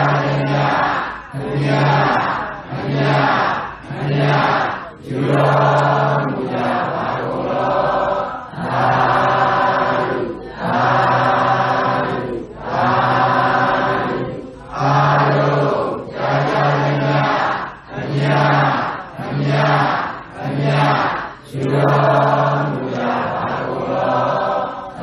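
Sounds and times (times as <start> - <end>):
group chanting in unison: 0.0 - 25.0.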